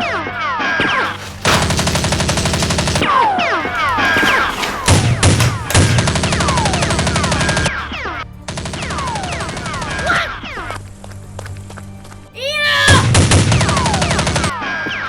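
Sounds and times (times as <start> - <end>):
background music: 1.0 - 15.0.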